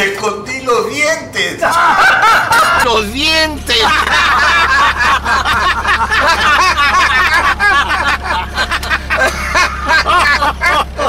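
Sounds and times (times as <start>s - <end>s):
men laughing: 1.6s - 11.0s
car interior hum: 1.9s - 11.0s.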